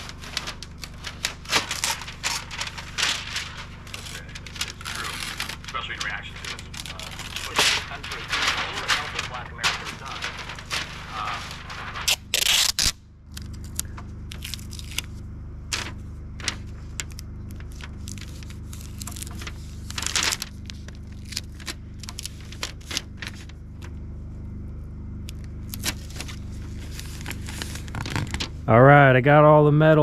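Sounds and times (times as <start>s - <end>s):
house wrap rustling and crinkling: 0.0s - 28.7s
steady low hum: 0.0s - 30.0s.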